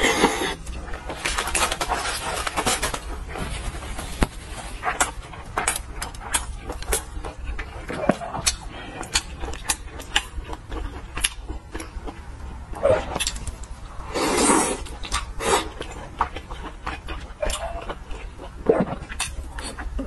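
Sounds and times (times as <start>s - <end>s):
low steady hum: 0.0s - 20.0s
person chewing soft food: 0.0s - 20.0s.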